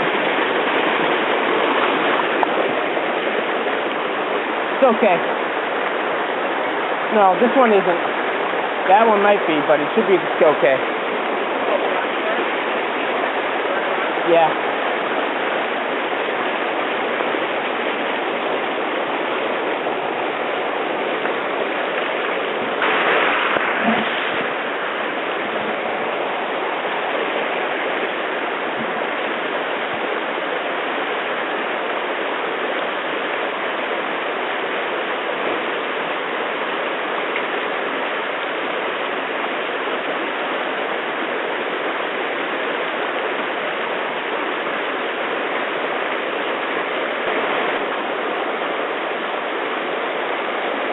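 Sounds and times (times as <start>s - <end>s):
river rushing over rocks: 0.0s - 50.9s.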